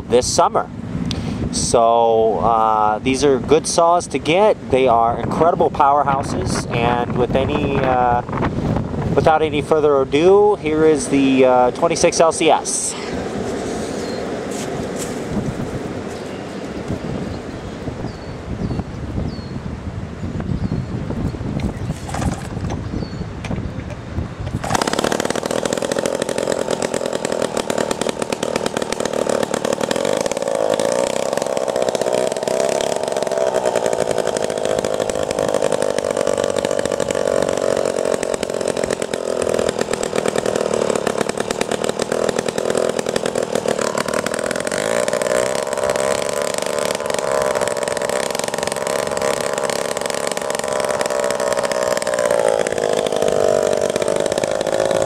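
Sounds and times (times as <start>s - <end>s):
chainsaw engine running: 0.0s - 18.0s, 21.8s - 22.8s, 24.5s - 55.0s.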